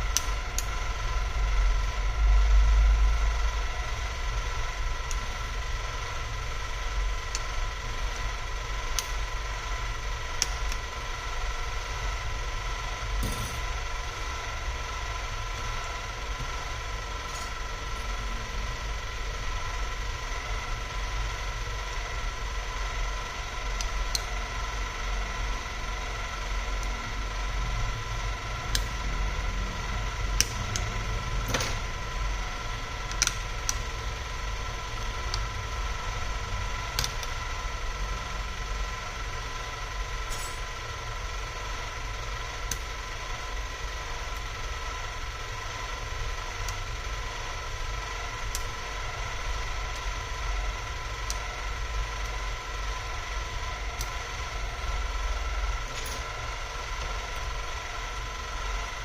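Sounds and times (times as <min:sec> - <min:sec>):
electrical hum: 0:00.0 - 0:59.0
faint tonal whine: 0:00.0 - 0:59.0.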